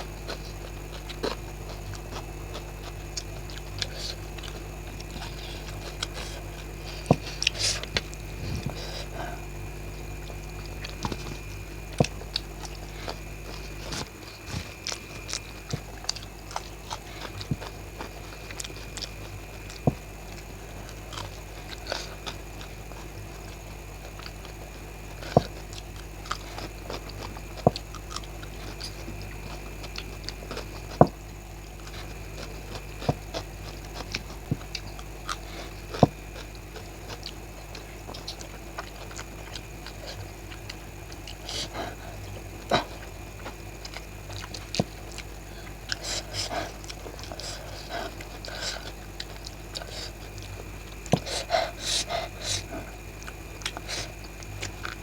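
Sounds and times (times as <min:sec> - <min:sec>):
background hum: 0:00.0 - 0:55.0
person chewing food: 0:00.0 - 0:55.0
sharp crunches: 0:00.0 - 0:55.0.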